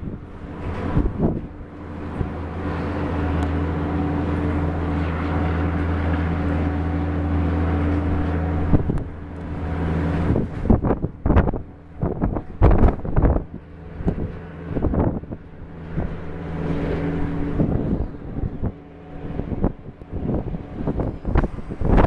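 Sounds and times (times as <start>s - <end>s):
vehicle engine humming: 0.0s - 22.0s
wind buffeting microphone: 0.0s - 22.0s.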